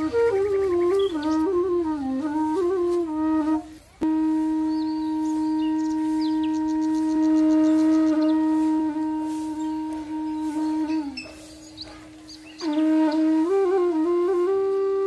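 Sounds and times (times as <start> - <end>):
flute-like wind instrument melody: 0.0 - 15.0.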